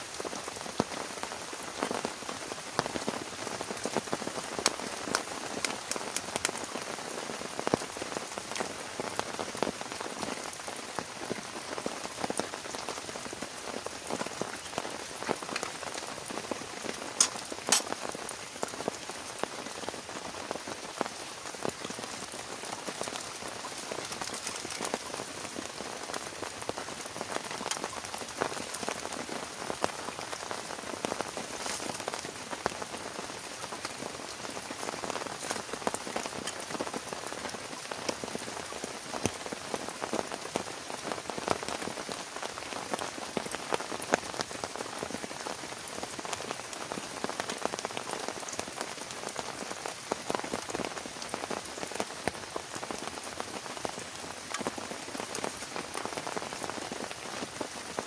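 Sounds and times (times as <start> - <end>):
heavy rain falling: 0.0 - 58.0
raindrops tapping on a surface: 0.1 - 58.0.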